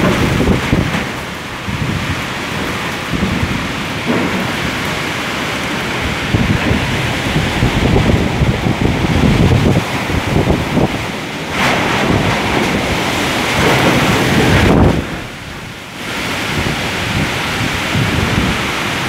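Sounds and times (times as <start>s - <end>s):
gusting wind: 0.0s - 19.0s
rain: 0.0s - 19.0s
wind buffeting microphone: 0.0s - 19.0s.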